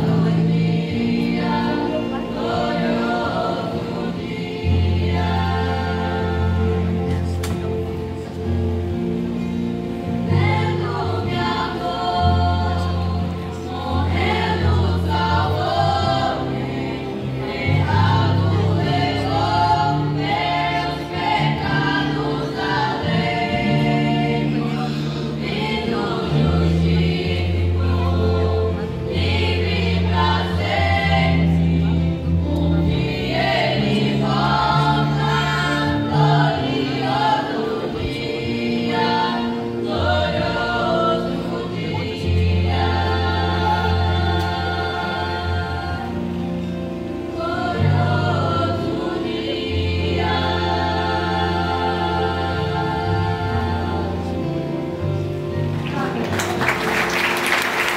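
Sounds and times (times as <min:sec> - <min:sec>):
voices singing worship song: 0:00.0 - 0:57.9.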